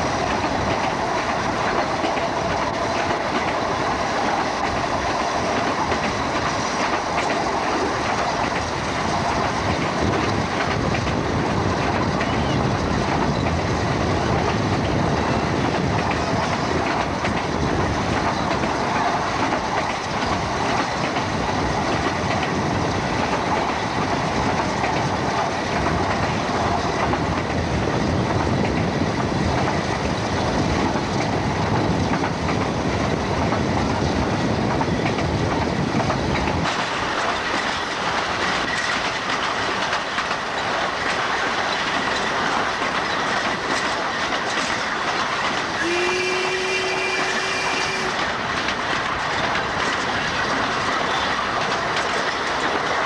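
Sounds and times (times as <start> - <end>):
train wheels running on rail: 0.0 - 53.0.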